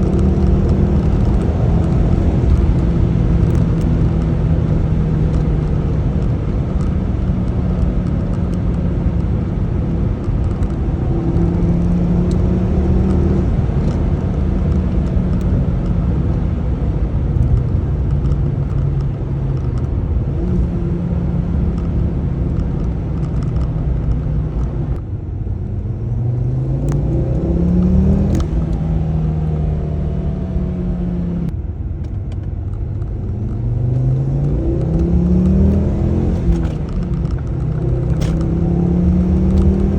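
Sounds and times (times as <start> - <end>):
car engine running: 0.0 - 26.0, 26.9 - 39.9.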